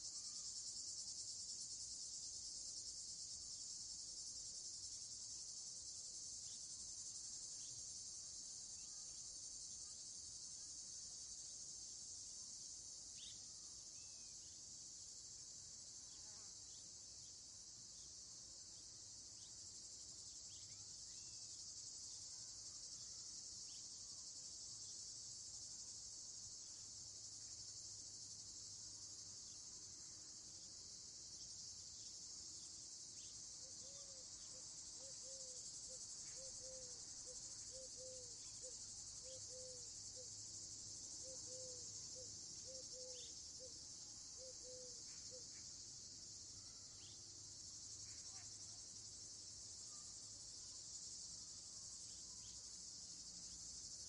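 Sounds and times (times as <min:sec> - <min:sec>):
crickets and insects chirping: 0:00.0 - 0:54.0.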